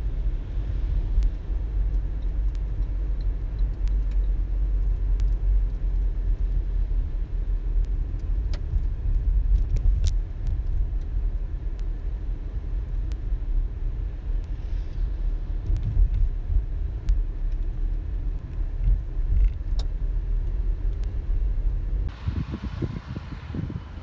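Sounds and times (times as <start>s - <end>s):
road rumble inside moving car: 0.0s - 24.0s.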